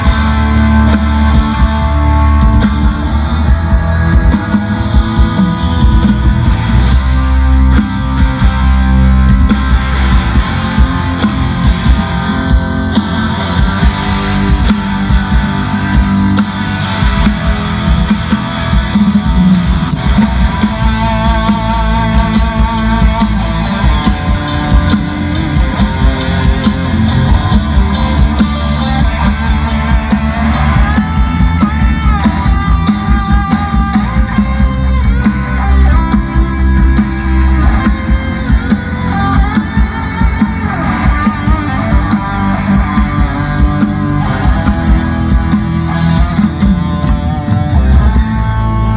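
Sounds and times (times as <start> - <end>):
loud rock music with guitar: 0.0 - 48.9.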